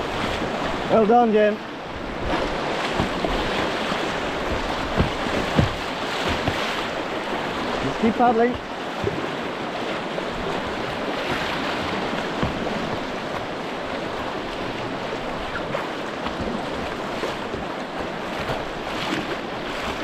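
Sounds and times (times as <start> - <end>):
rushing white water: 0.0 - 20.0
water splashes: 0.0 - 20.0.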